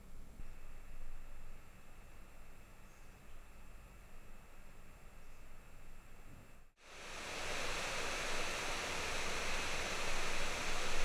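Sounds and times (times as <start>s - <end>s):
laptop cooling fan rushing: 0.0s - 11.0s.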